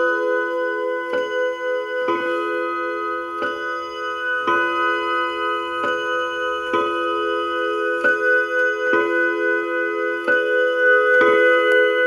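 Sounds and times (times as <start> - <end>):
wall clock gong striking: 0.0 - 12.0.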